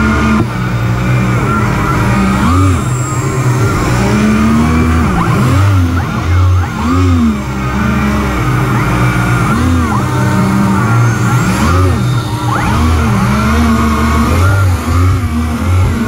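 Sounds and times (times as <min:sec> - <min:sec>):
propellers whining: 0:00.0 - 0:16.0.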